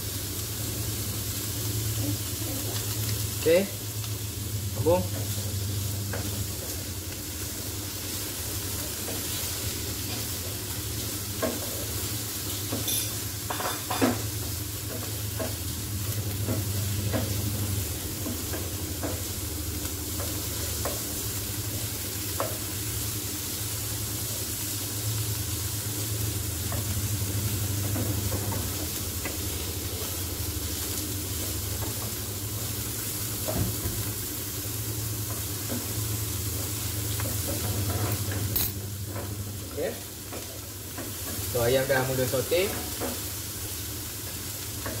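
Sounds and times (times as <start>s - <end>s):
chicken sizzling in oil: 0.0s - 45.0s.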